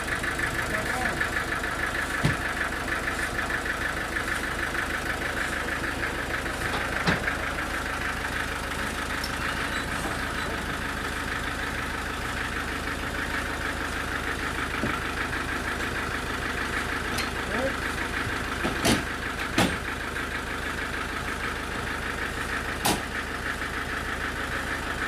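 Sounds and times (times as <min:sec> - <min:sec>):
engine running at low speed: 0:00.0 - 0:25.0.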